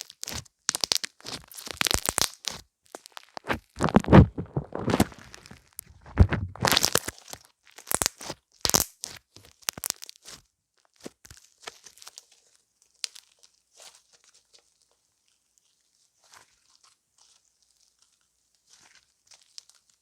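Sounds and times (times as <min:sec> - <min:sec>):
crackling and crinkling: 0:00.0 - 0:20.0.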